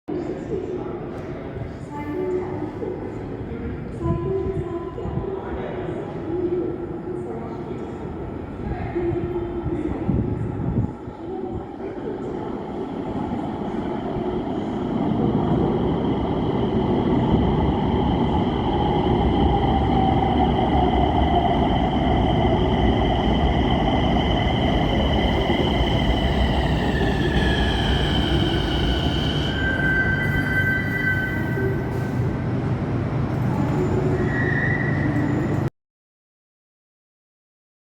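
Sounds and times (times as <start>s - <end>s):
metro train rumble: 0.2s - 35.7s.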